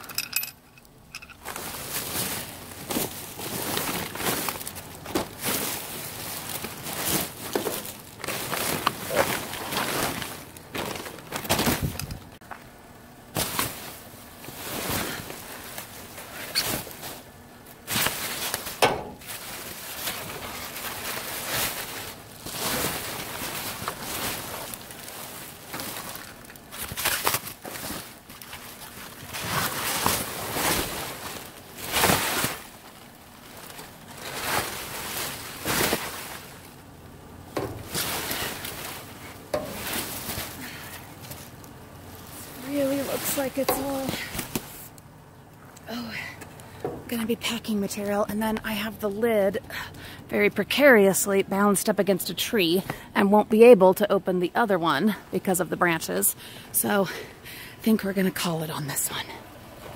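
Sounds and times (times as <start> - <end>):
plastic bags rustling and crinkling: 1.2 - 12.6, 13.2 - 54.0.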